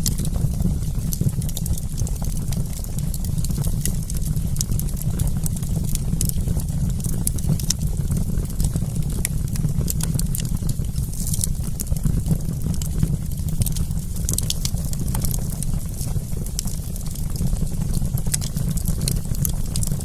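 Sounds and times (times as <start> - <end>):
campfire crackling and popping: 0.0 - 20.0
low steady rumble: 0.0 - 20.0.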